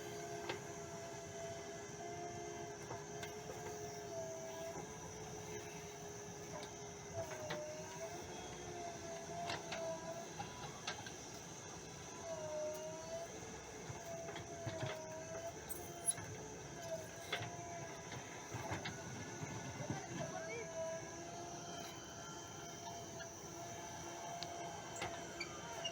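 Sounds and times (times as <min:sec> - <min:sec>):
backhoe engine and hydraulics: 0:00.0 - 0:25.9.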